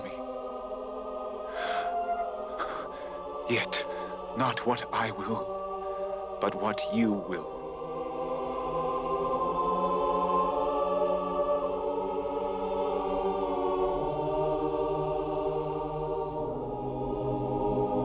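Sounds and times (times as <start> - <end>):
slow music of held chords: 0.0 - 18.0.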